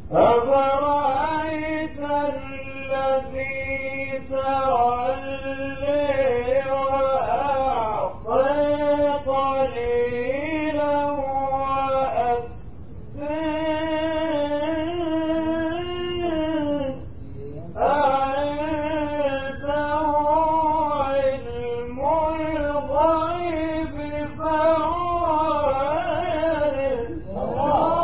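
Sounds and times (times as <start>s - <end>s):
man chanting melodically: 0.0s - 28.0s.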